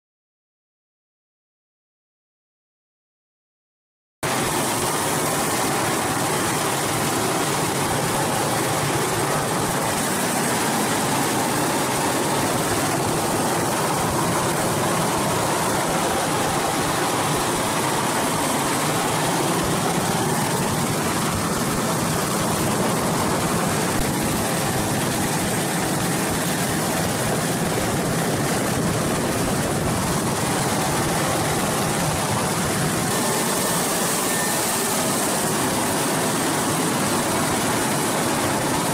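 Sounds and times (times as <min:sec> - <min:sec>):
helicopter rotor rushing noise: 0:04.2 - 0:38.9
turbine engine whine: 0:04.2 - 0:38.9.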